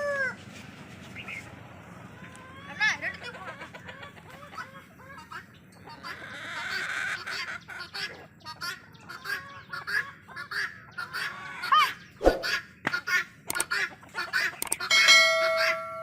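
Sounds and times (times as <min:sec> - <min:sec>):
chickens clucking and squawking: 0:00.0 - 0:16.0.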